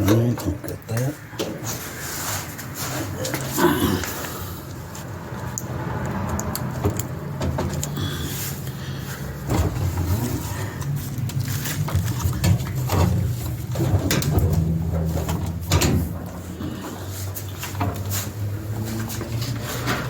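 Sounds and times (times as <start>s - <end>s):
parts clicking and knocking: 3.2s - 20.0s.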